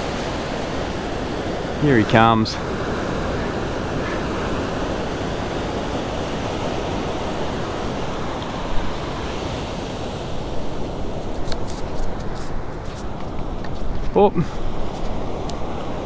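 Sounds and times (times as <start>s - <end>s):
ocean surf washing in: 0.0s - 16.0s.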